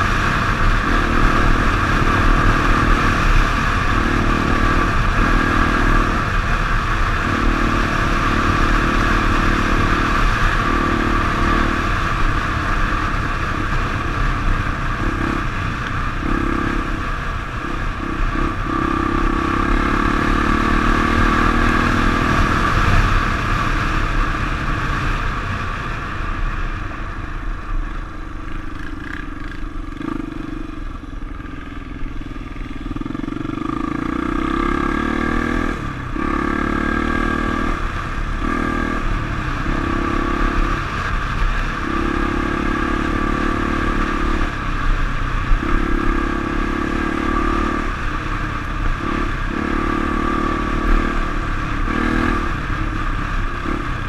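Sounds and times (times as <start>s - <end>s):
dirt bike engine revving: 0.0s - 25.6s, 28.3s - 54.0s.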